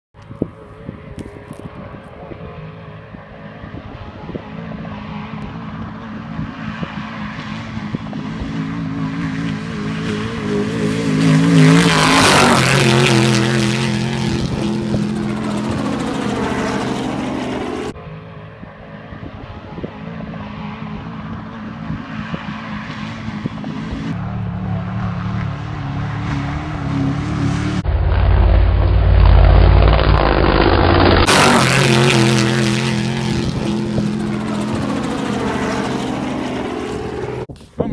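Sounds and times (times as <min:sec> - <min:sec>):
engine approaching: 0:00.2 - 0:37.9
race vehicle engine passing: 0:00.5 - 0:37.5.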